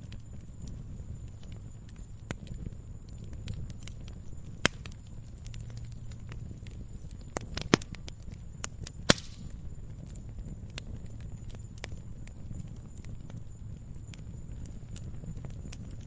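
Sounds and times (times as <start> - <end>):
firewood crackling and popping: 0.0 - 16.0
low steady rumble: 0.0 - 16.0.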